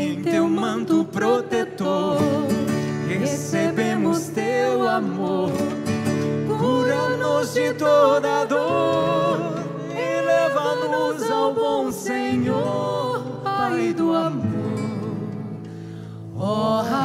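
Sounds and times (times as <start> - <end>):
men and women singing a hymn: 0.0 - 15.7, 16.3 - 17.0
acoustic guitar: 0.0 - 17.0.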